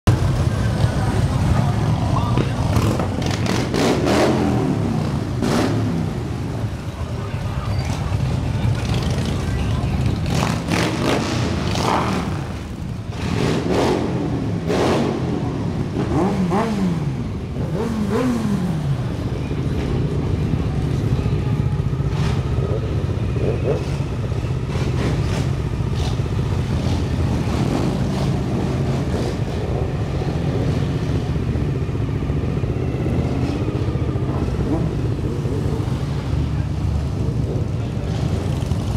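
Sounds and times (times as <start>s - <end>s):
motorcycle engines revving: 0.1s - 38.9s
motorcycles riding past: 0.1s - 38.9s.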